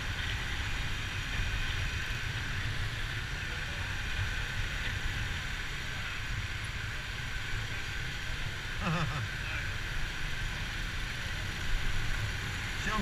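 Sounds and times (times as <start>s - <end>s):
motorbike engine running: 0.0s - 13.0s
wind rumbling on microphone: 0.0s - 13.0s.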